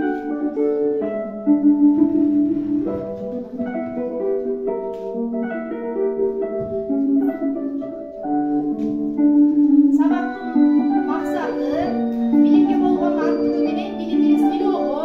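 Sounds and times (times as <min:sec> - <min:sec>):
slow instrumental melody: 0:00.0 - 0:15.0.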